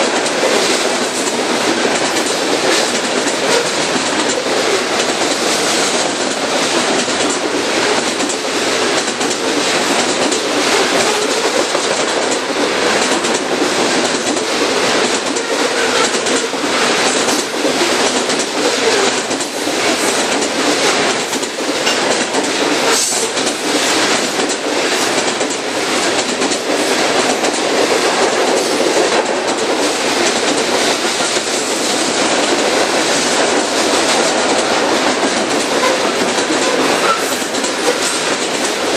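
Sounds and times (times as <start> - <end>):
rumble of wheels on rail: 0.0 - 38.9
wheels clicking over rail joints: 0.0 - 38.9.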